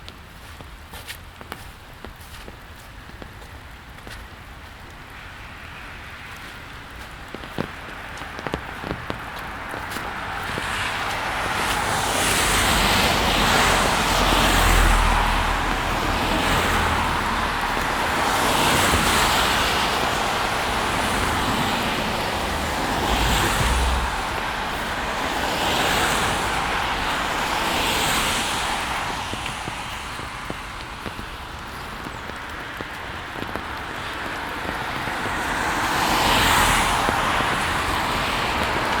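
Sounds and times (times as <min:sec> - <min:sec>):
tyres hissing on wet road: 0:03.9 - 0:39.0.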